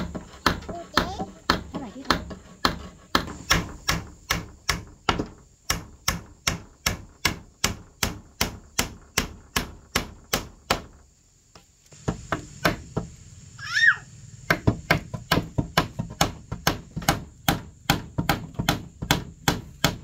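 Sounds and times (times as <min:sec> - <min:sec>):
hammer striking wood: 0:00.0 - 0:11.0, 0:12.0 - 0:13.1, 0:14.5 - 0:20.0.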